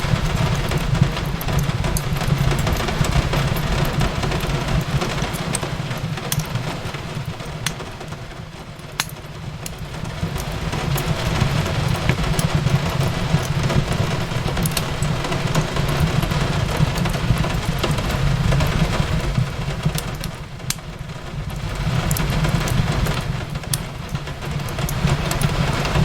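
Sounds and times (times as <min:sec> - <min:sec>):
fireplace crackling and popping: 0:00.0 - 0:26.0
rain on a window: 0:00.0 - 0:26.0.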